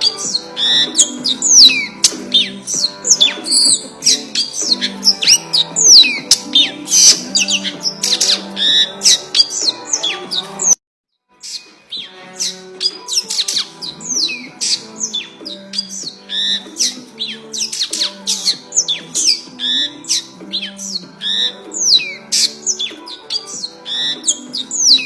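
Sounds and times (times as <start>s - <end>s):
sparrow chirping rapidly: 0.0s - 10.8s, 11.4s - 25.0s
background music: 0.0s - 25.0s.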